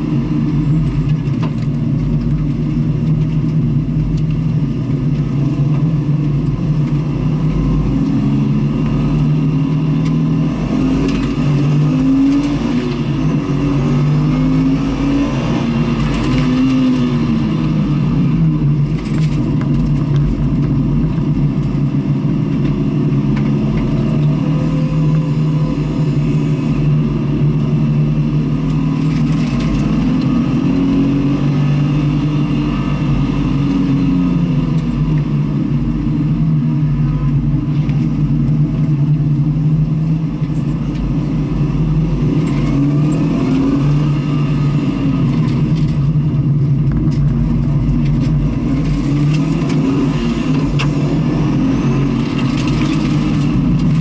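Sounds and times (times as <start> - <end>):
wind and road rumble: 0.0 - 54.0
race car engine accelerating: 4.6 - 54.0.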